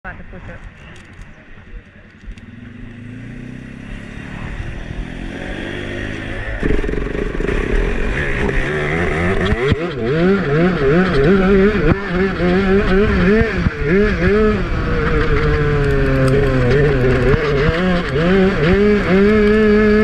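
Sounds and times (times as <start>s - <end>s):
kart engine revving: 2.2s - 20.0s.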